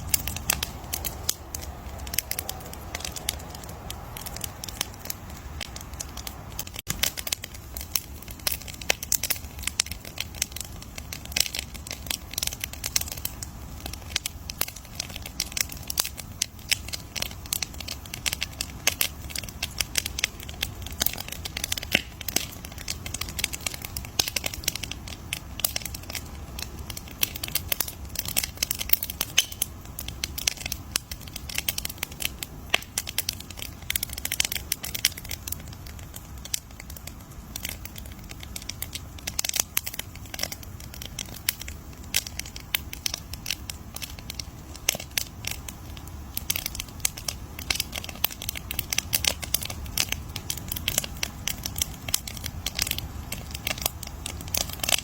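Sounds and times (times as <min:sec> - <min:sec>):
bonfire crackling: 0:00.0 - 0:55.0
low rumble of fire: 0:00.0 - 0:55.0.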